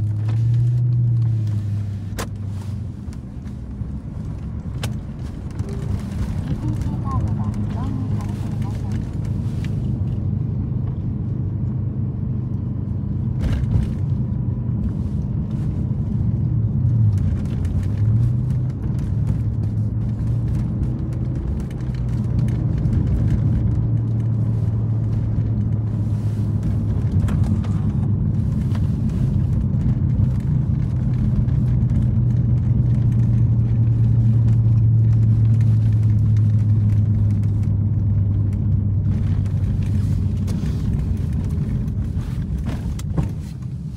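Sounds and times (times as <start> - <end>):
low exhaust drone: 0.0 - 43.9
road noise: 0.0 - 43.9.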